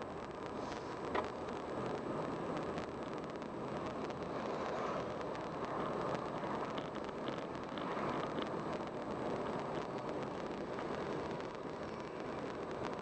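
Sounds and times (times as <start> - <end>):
tyres rushing on asphalt: 0.0 - 13.0
wind noise: 0.0 - 13.0.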